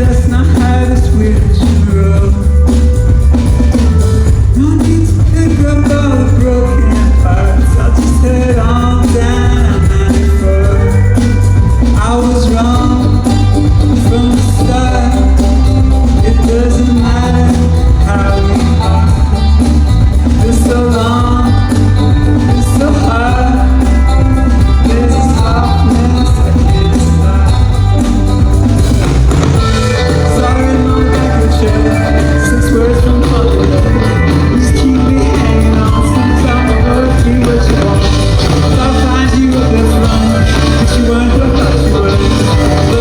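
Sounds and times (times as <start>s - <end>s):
drums: 0.0s - 43.0s
guitar: 0.0s - 43.0s
heavy bass: 0.0s - 43.0s
lead vocal: 0.0s - 43.0s.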